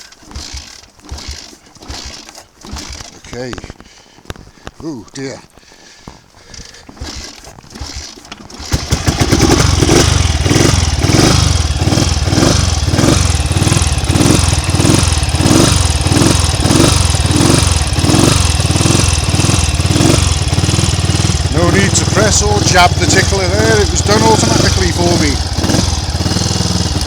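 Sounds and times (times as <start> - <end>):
motorcycle engine running: 0.0 - 3.8, 6.8 - 27.0.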